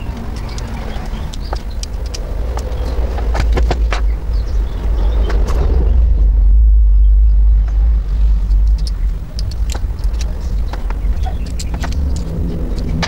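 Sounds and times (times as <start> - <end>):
deep low rumble: 0.0 - 13.0.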